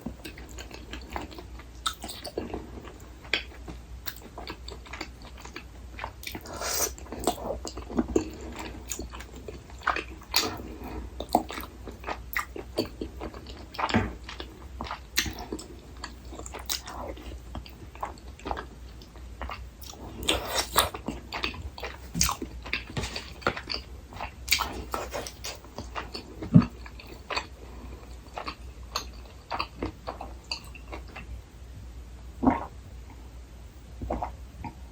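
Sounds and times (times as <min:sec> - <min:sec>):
person chewing food: 0:00.0 - 0:31.3, 0:32.4 - 0:32.8, 0:34.0 - 0:34.9.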